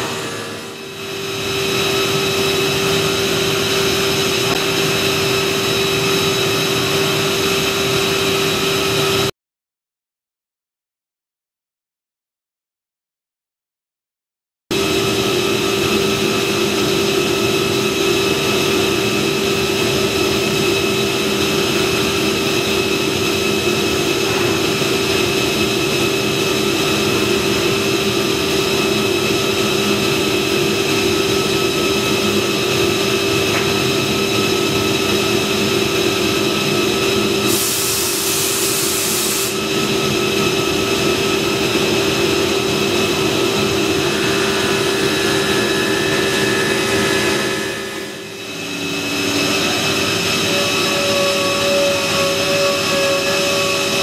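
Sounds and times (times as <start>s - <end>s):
woodworking machinery humming: 0.0s - 9.3s, 14.8s - 54.0s.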